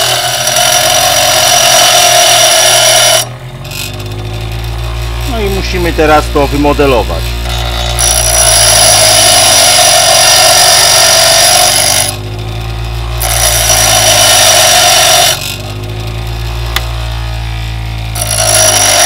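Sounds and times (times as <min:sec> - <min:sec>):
drill bit grinding on wheel: 0:00.0 - 0:19.0
grinder motor humming: 0:00.0 - 0:19.0.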